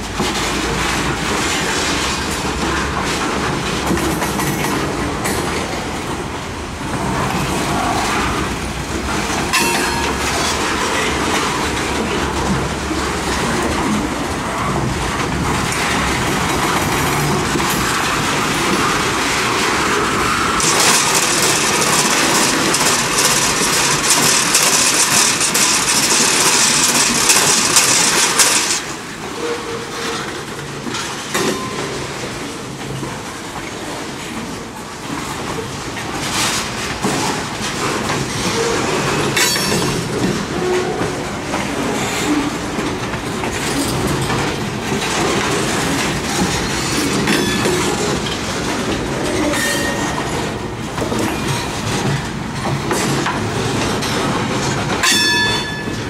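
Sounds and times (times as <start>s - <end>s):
freight train wheels rumbling: 0.0s - 56.0s
wheels clacking over rail joints: 0.0s - 56.0s.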